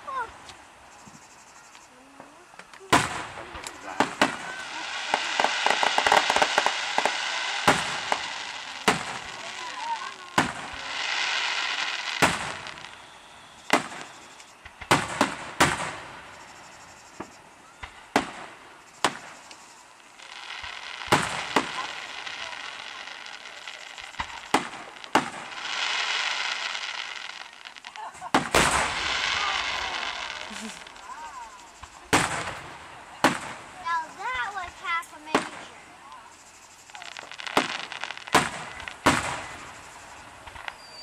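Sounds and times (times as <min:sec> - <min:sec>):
fireworks bursting with sharp bangs: 0:00.0 - 0:41.0
hissing noise: 0:00.0 - 0:41.0.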